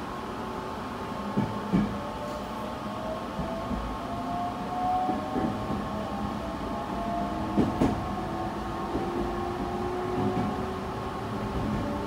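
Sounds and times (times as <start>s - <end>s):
train wheels rumbling on rails: 1.0s - 12.0s.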